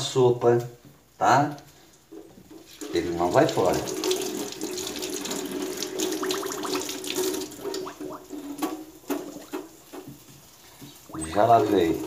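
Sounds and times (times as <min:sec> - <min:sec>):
water splashes: 0:02.1 - 0:12.0.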